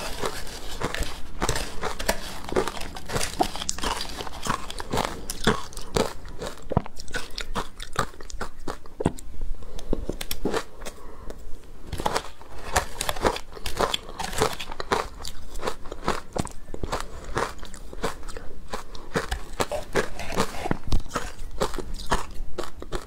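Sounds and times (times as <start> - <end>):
crunching and chewing ice: 0.0 - 23.0.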